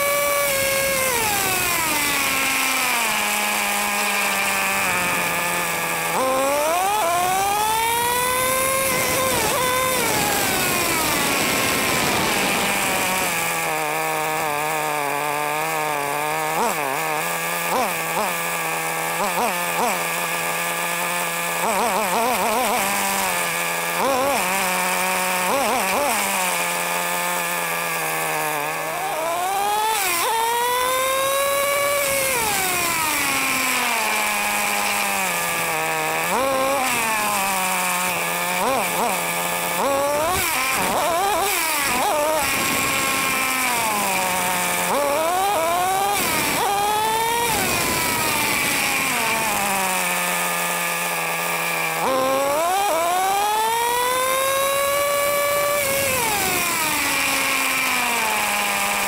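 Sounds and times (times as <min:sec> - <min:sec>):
nitro engine idling and revving: 0:00.0 - 0:59.0.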